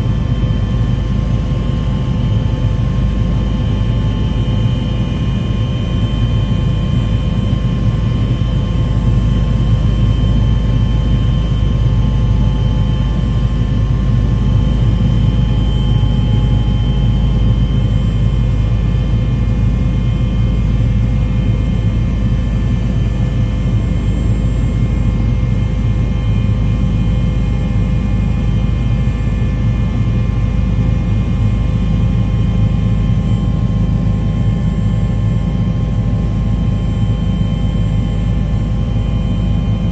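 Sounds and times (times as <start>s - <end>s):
low rumble with steady hum: 0.0s - 39.9s.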